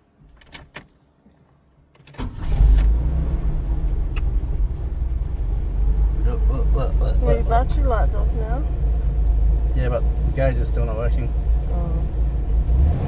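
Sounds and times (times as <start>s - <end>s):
car engine cranking and idling: 2.0s - 13.0s.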